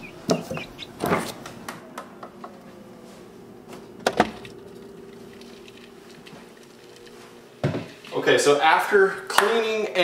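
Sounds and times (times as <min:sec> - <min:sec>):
refrigerator hum: 0:00.0 - 0:10.0.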